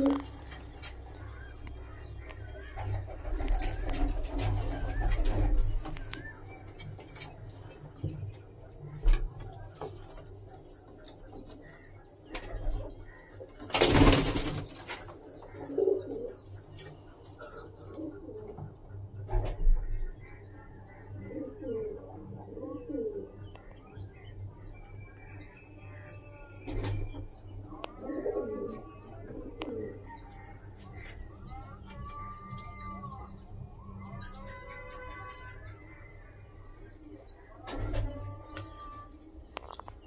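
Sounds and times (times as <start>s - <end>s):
pigeons cooing: 0.0s - 16.6s, 17.2s - 18.8s, 19.4s - 23.6s, 26.7s - 40.0s.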